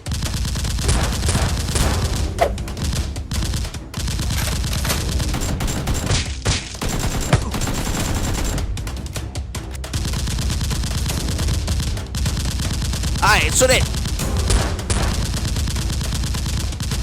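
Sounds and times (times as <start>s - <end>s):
rapid gunfire bursts: 0.0s - 8.9s, 9.9s - 17.0s
background music: 0.0s - 17.0s.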